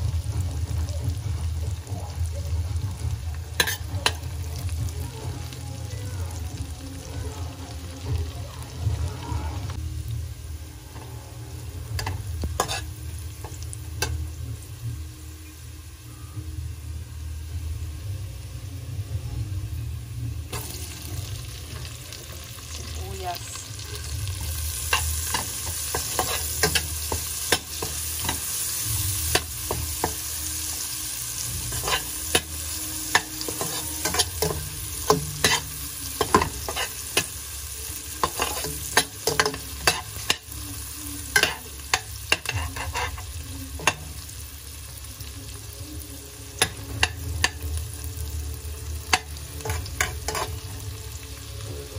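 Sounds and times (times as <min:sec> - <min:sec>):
garlic and onion sizzling: 0:00.0 - 0:51.9.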